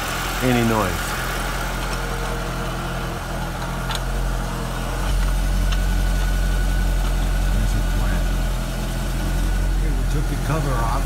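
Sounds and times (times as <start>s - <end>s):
car engine idling hum: 0.0s - 11.0s.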